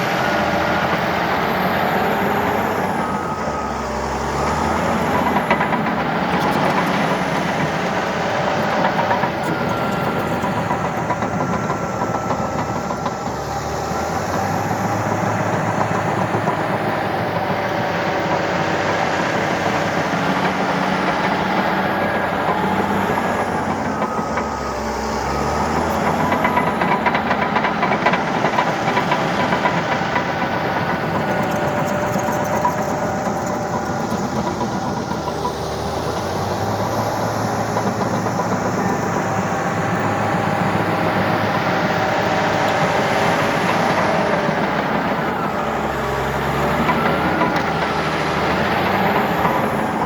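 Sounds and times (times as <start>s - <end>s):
heavy diesel machinery engines: 0.0s - 50.0s.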